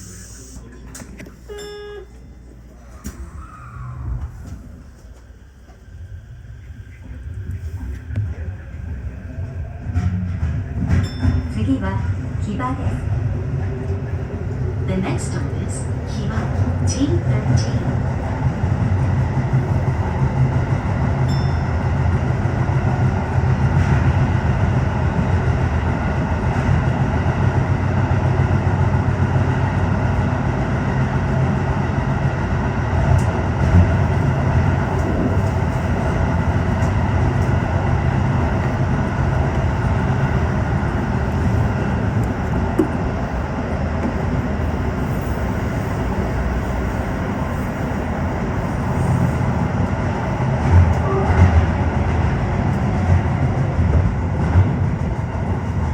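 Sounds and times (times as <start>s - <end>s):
train wheels rumbling on rails: 2.1s - 55.9s.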